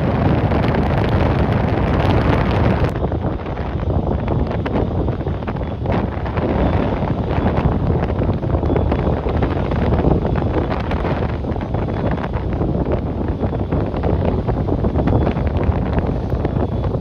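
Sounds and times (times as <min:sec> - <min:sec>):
strong gusty wind on microphone: 0:00.0 - 0:17.0.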